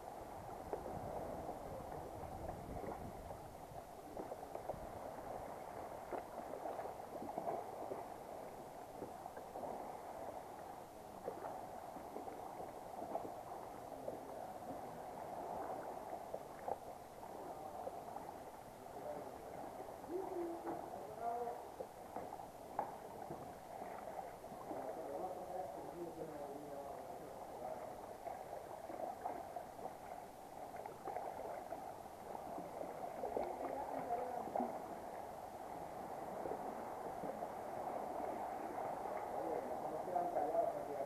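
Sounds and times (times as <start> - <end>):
paddle splashes: 0.0 - 41.0
water lapping against kayak hull: 0.0 - 41.0.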